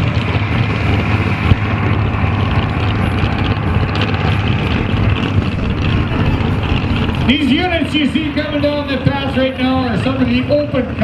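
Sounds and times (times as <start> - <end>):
pickup truck engine running loudly: 0.0 - 11.0.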